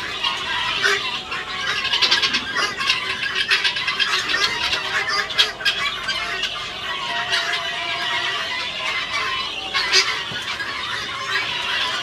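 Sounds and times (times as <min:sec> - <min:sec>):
guinea fowl chattering calls: 0:00.0 - 0:12.0.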